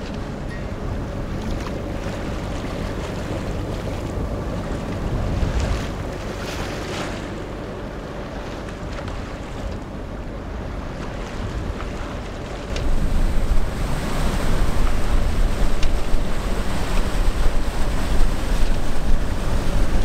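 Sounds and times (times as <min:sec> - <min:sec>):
steady low hum: 0:00.0 - 0:20.0
water washing along hull: 0:00.0 - 0:20.0
wind buffeting microphone: 0:00.0 - 0:20.0.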